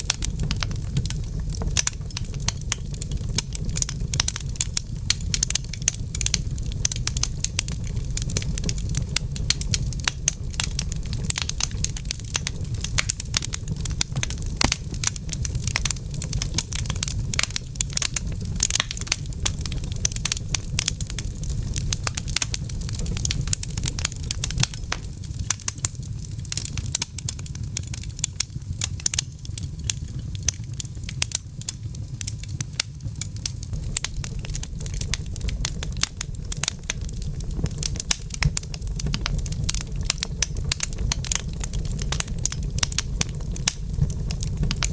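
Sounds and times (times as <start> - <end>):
low fire rumble: 0.0 - 44.9
wood fire crackling: 0.0 - 44.9.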